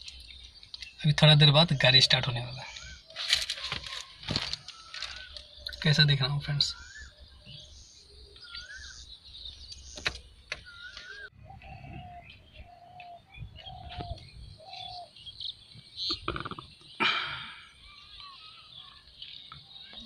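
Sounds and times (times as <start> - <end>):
lower bird call: 1.7 - 20.0.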